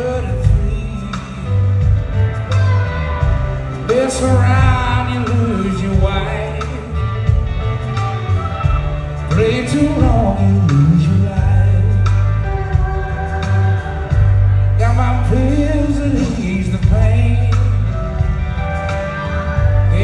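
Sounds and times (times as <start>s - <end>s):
live band playing blues groove: 0.0s - 20.0s.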